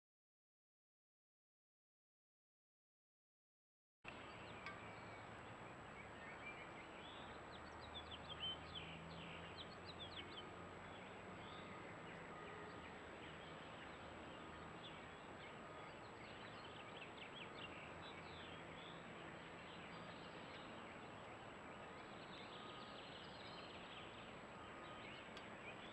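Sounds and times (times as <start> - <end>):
songbirds chirping: 4.1 - 25.9.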